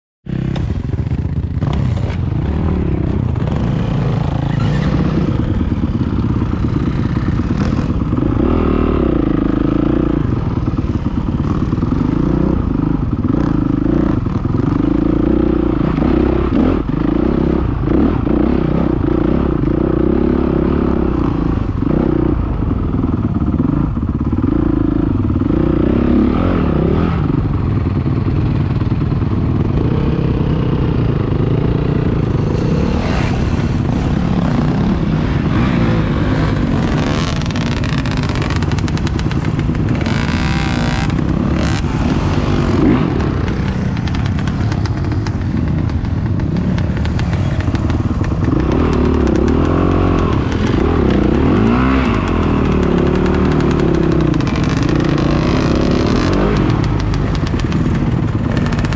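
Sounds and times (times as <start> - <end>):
motorcycle engines revving: 0.3 - 58.9.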